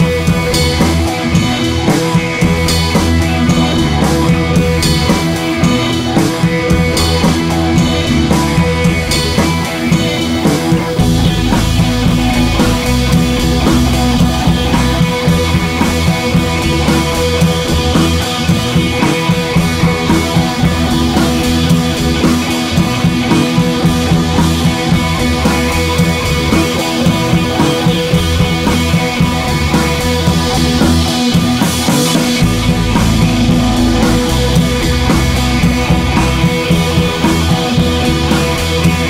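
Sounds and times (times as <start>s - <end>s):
rock music: 0.0s - 39.0s.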